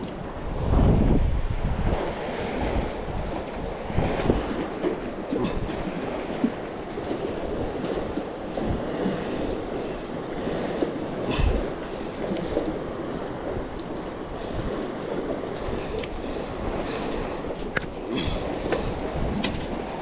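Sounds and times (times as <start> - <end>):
water lapping: 0.0 - 20.0
wind buffeting microphone: 0.0 - 20.0.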